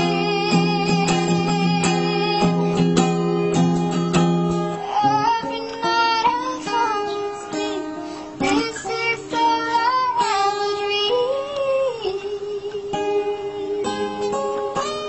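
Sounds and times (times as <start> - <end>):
child singing: 0.0 - 3.5, 4.8 - 15.0
acoustic guitar: 0.0 - 15.0.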